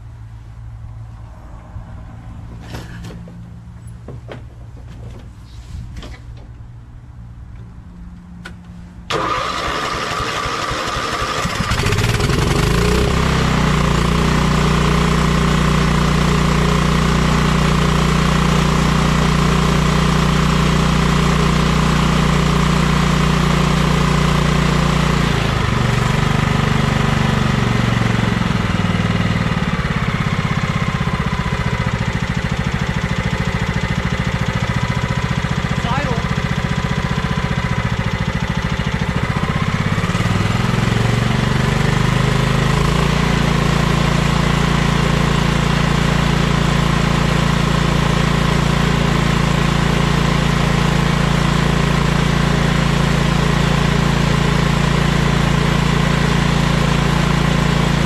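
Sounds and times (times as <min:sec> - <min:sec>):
lawn tractor engine running: 0:08.4 - 0:58.0.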